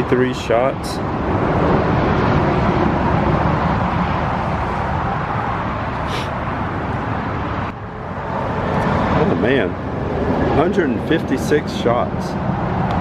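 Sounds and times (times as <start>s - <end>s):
traffic passing close by: 0.0s - 13.0s.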